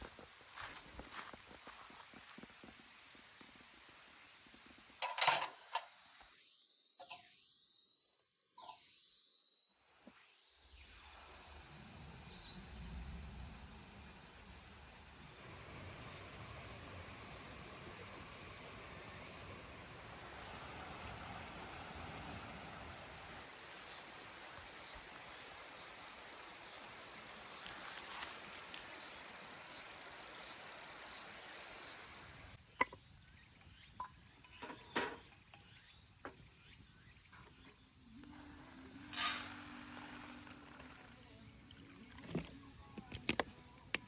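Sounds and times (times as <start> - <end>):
insects trilling: 0.0 - 44.0.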